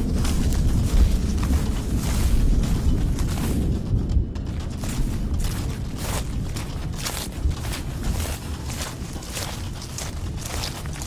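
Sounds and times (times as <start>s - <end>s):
music with booming bass: 0.0s - 11.0s.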